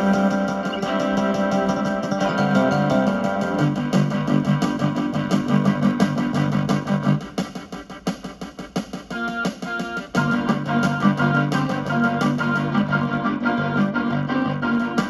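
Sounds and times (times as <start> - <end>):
bass line of repeated notes: 0.0 - 7.4, 9.2 - 15.0
sequenced synth music: 0.0 - 15.0.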